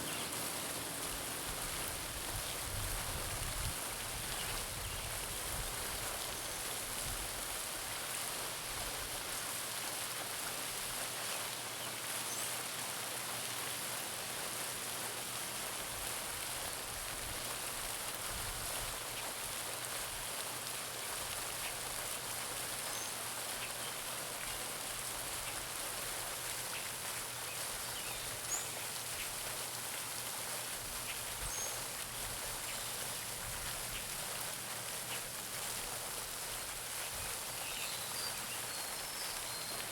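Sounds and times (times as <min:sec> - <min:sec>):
fountain splashing into pond: 0:00.0 - 0:39.9.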